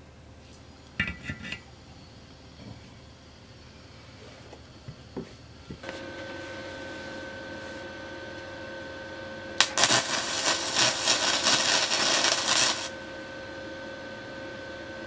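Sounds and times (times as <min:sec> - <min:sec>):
faint steady hum: 0:00.0 - 0:15.0
arc welding crackle and sizzle: 0:00.4 - 0:15.0.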